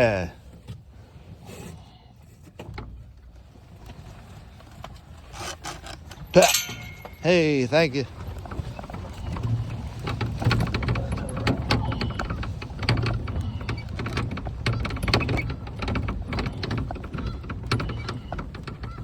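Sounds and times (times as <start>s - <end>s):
rattles and crackles: 2.5s - 19.0s
golf cart driving over rough ground: 2.7s - 19.0s.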